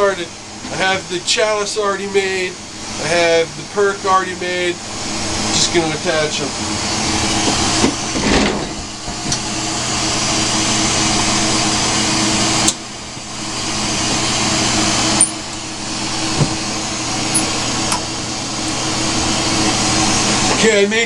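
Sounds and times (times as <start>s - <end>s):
torch flame hissing: 0.0s - 20.8s.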